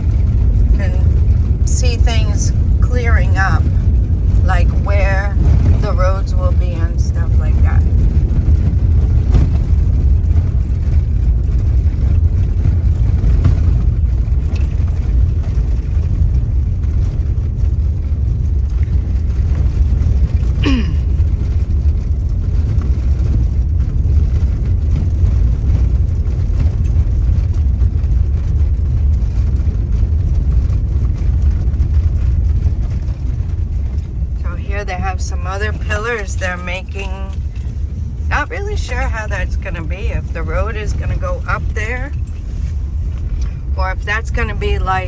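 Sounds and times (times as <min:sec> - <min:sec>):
car cabin road and engine rumble: 0:00.0 - 0:45.0.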